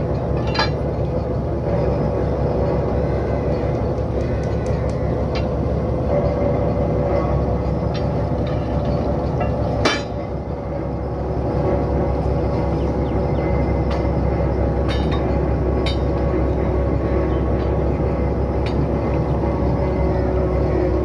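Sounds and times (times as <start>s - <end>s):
metal clinks of drill pipe: 0.0s - 20.9s
drilling rig engine running: 0.0s - 21.0s.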